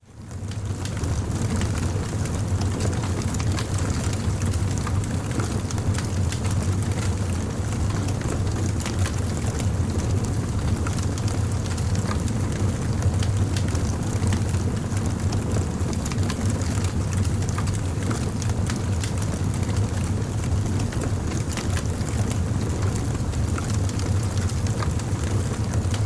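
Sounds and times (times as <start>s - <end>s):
campfire crackling and popping: 0.5s - 26.0s.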